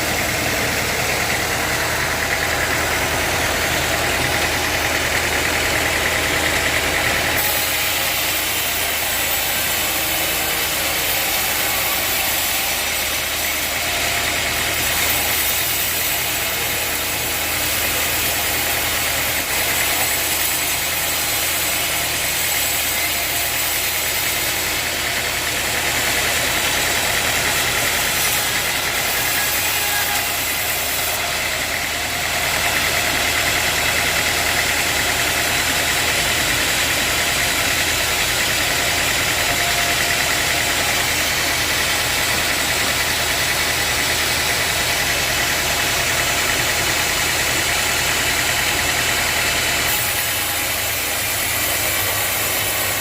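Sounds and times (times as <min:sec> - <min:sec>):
sawmill machinery hum and hiss: 0:00.0 - 0:53.0.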